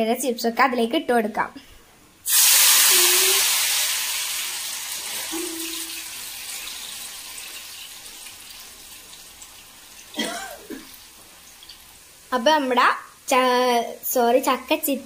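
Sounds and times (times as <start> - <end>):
chips sizzling in hot oil: 2.2 - 15.0.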